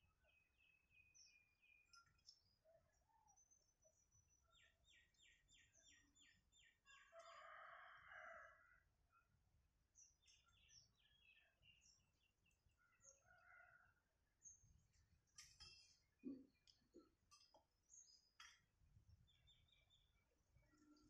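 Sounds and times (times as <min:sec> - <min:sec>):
small birds chirping: 0:00.0 - 0:07.6, 0:09.9 - 0:13.8, 0:14.4 - 0:21.0.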